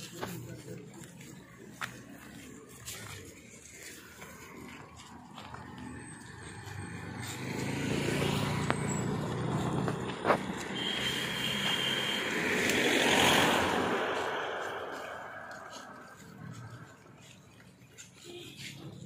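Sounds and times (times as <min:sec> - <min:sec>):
traffic passing on road: 0:00.0 - 0:19.0.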